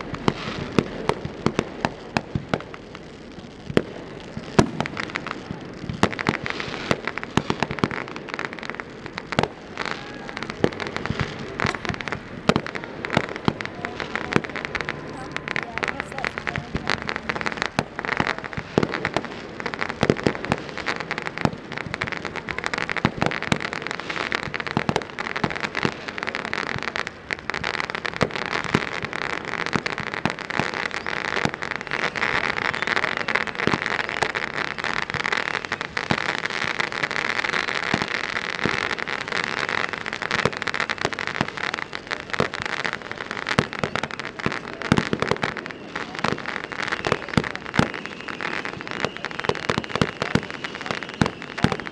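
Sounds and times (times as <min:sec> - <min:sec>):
fireworks bangs: 0:00.0 - 0:51.9
fireworks crackling: 0:00.0 - 0:51.9.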